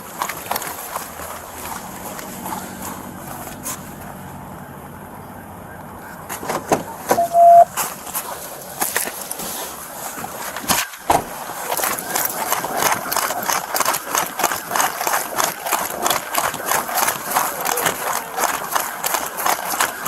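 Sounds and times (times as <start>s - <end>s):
gear knocking and rattling with steps: 0.0s - 3.9s, 7.8s - 20.0s.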